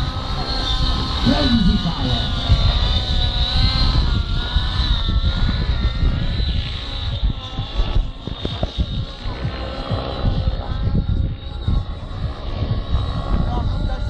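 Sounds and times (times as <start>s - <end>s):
model helicopter engine whine: 0.0s - 14.0s
wind buffeting microphone: 0.0s - 14.0s.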